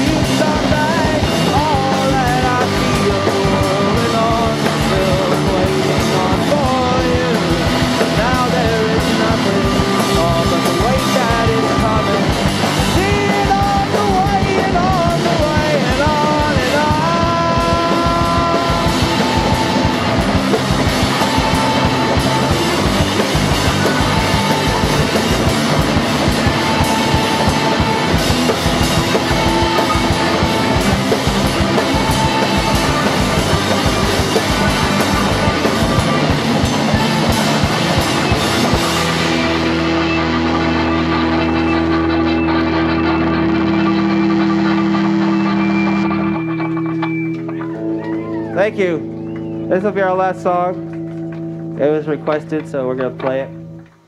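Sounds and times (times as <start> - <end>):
steady drone: 0.0 - 50.0
drums: 0.0 - 54.0
electric guitar melody: 0.0 - 54.0.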